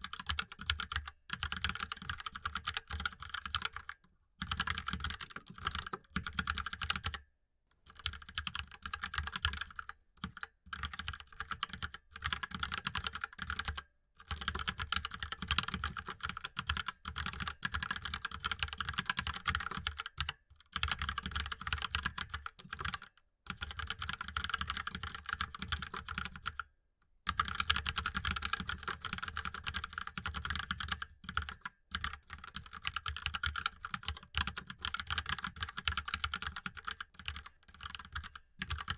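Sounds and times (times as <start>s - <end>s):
mechanical keyboard typing: 0.0s - 7.2s, 8.0s - 26.6s, 27.3s - 38.9s.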